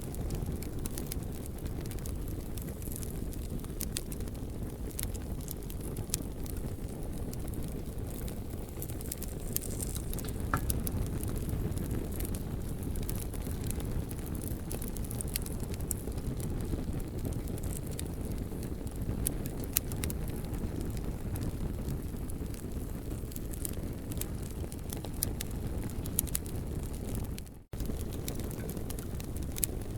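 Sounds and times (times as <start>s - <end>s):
campfire crackling and popping: 0.0s - 29.9s
low rumble of fire: 0.0s - 29.9s.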